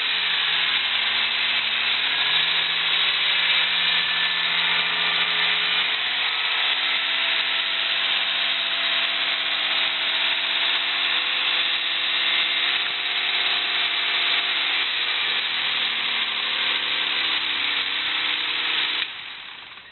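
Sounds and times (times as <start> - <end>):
engine running: 0.0 - 19.9.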